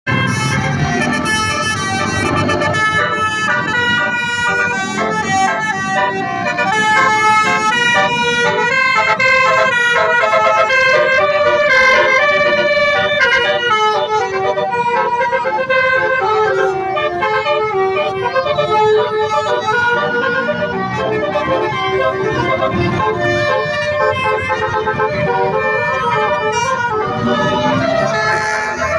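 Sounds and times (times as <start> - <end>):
bus air horn melody: 0.1 - 28.9.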